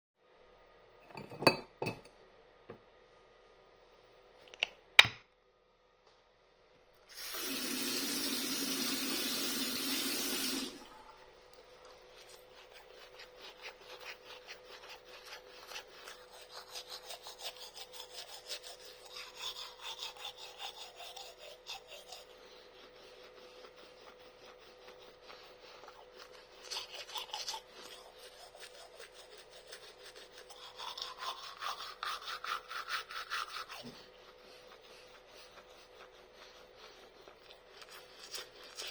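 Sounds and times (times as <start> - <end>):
toothbrush scrubbing teeth: 7.1 - 38.9.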